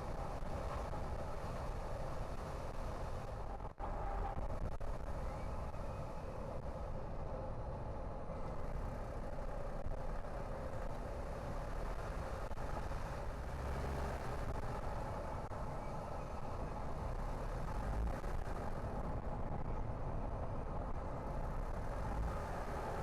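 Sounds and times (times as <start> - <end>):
car engine and tyre noise: 0.0 - 23.0.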